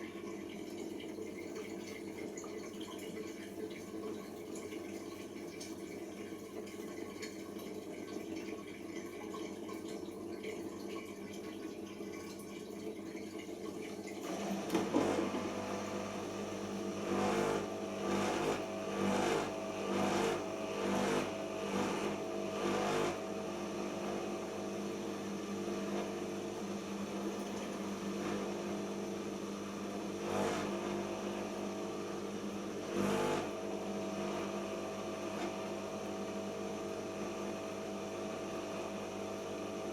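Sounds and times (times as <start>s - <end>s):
water draining from washing machine: 0.0s - 24.6s, 25.4s - 39.9s
washing machine drum motor hum: 0.0s - 39.9s.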